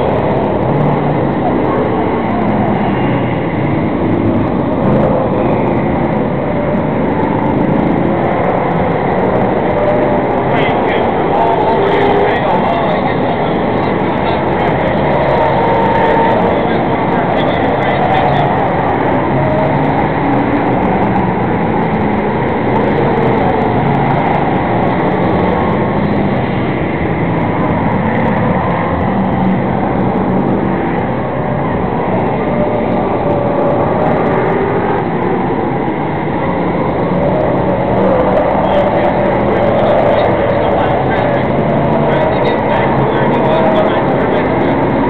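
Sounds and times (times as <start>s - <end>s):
stock car engines racing: 0.0s - 45.0s.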